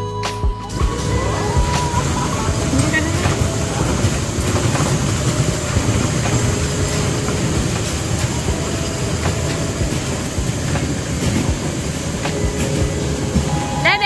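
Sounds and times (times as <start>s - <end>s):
wheels rumbling on rails: 0.7s - 14.0s.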